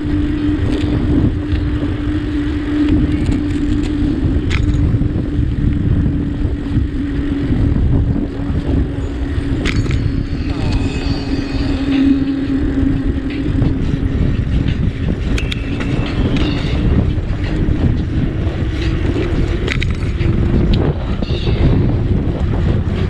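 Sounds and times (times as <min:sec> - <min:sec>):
rolling road noise: 0:00.0 - 0:23.0
steady low hum: 0:00.0 - 0:23.0
wind rushing over microphone: 0:00.0 - 0:23.0.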